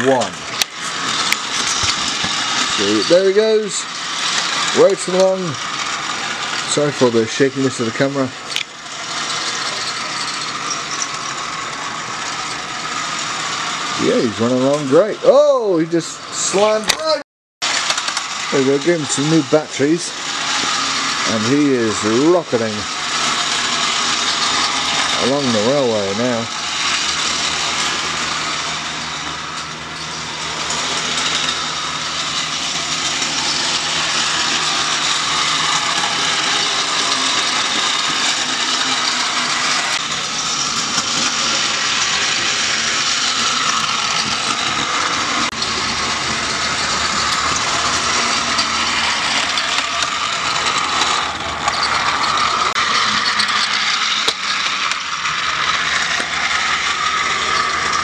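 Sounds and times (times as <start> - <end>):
toy train motor whirring and rattling: 0.0 - 58.0.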